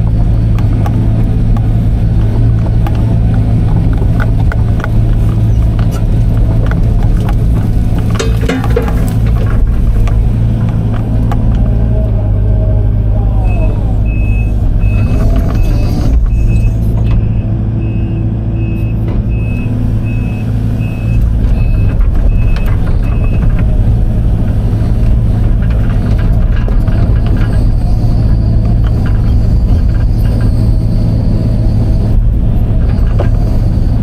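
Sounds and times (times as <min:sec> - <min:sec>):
diesel engine under load: 0:00.0 - 0:34.0
hydraulics whining: 0:00.0 - 0:34.0.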